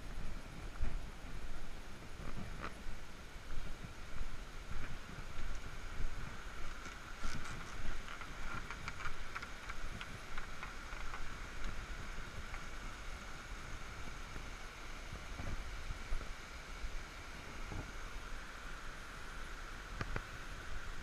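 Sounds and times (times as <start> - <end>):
wind rumble on microphone: 0.0 - 18.9.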